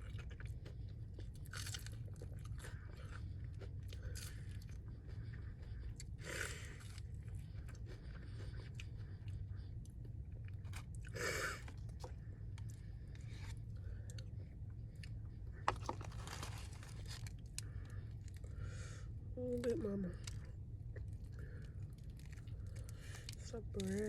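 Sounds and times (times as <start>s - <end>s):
chewing and crunching fried chicken: 0.0s - 24.0s
low steady hum: 0.0s - 24.0s.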